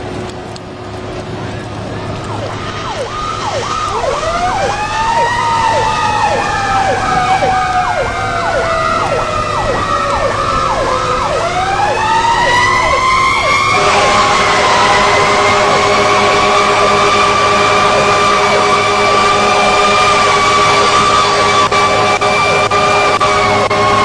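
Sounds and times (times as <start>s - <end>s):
slow wailing siren: 2.0s - 24.0s
fast cycling siren: 2.2s - 24.0s
steady horn blast: 2.6s - 24.0s.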